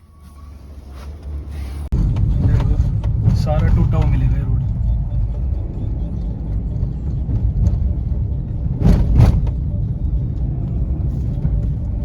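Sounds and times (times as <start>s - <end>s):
tyre rumble on rough road: 0.0s - 12.0s.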